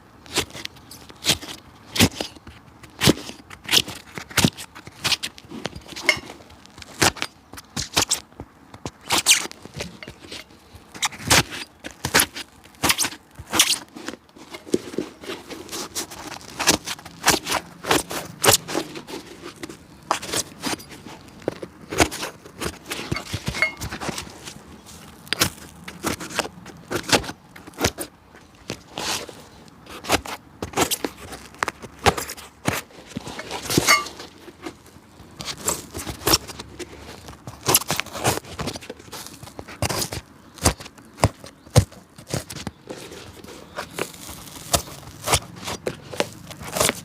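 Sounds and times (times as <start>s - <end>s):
scraping strokes on a shoe: 0.2s - 47.0s.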